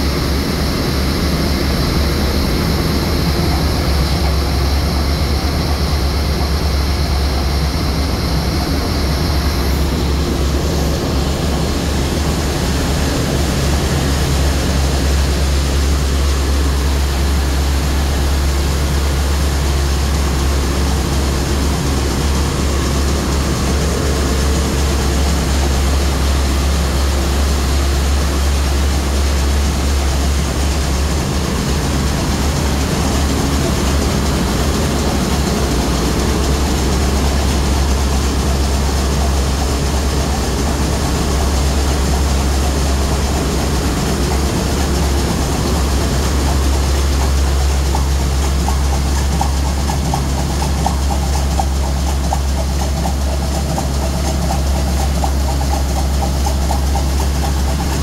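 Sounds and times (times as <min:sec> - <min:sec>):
ship engine deep low hum: 0:00.0 - 0:58.0.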